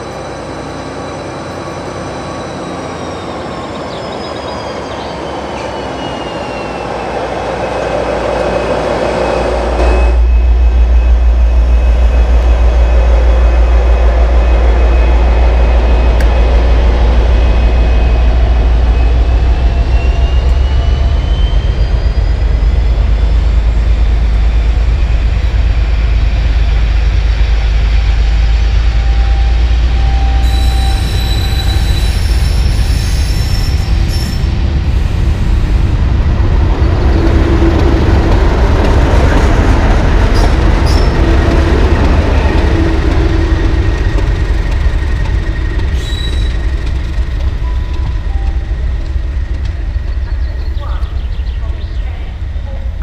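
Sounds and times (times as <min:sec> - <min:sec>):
train wheels rolling and squealing: 0:00.0 - 0:52.7
locomotive engine hum: 0:00.0 - 0:53.0.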